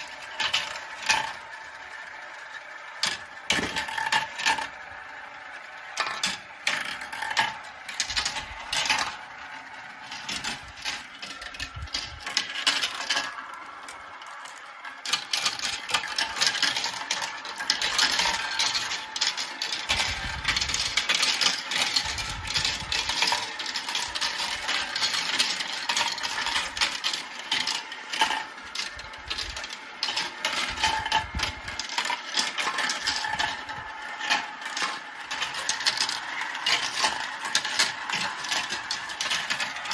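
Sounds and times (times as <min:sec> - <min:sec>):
marbles clacking through a run: 0:03.0 - 0:04.8, 0:05.9 - 0:39.9.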